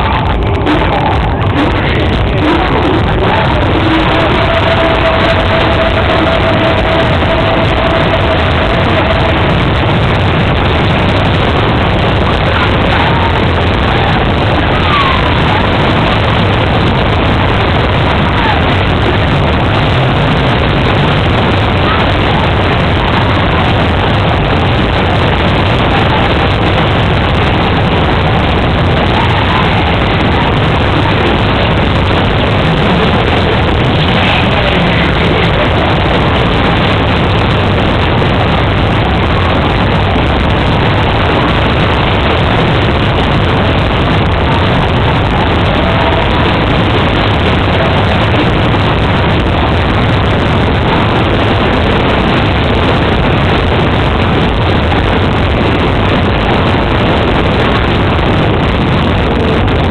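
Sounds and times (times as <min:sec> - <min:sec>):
low machine hum: 0:00.0 - 0:57.4
fairground ride rushing: 0:00.0 - 0:59.9.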